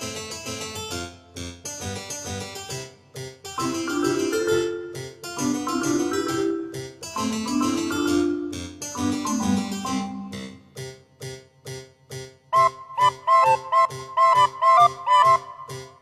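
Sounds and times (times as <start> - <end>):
keyboard melody over steady pulse: 0.0 - 16.0.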